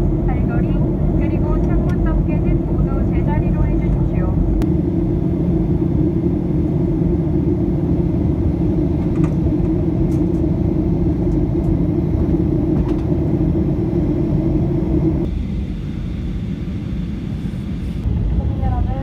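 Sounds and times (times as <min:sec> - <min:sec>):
airliner cabin roar: 0:00.0 - 0:19.0.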